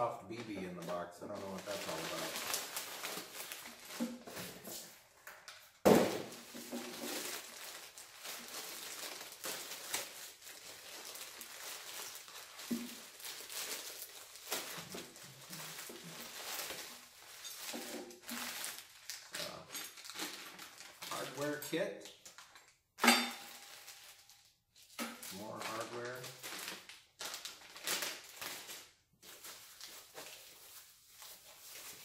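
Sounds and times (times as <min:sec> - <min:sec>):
plastic bags crinkling: 0:00.3 - 0:22.8, 0:23.4 - 0:32.0.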